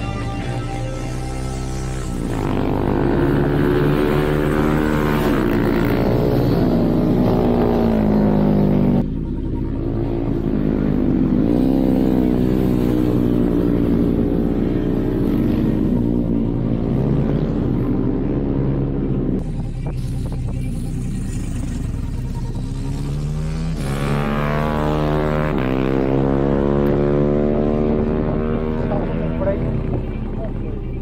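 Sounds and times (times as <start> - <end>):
small motorcycle engines revving: 0.0 - 31.0.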